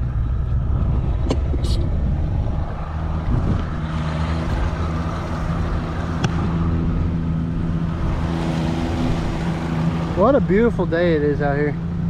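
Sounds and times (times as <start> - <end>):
outboard motor running: 0.0 - 12.0
wind and water rushing: 0.0 - 12.0.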